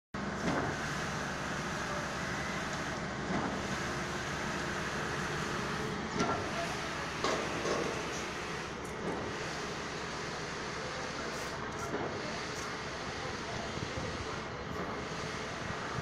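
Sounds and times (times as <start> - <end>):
concrete pump running: 0.2 - 16.0.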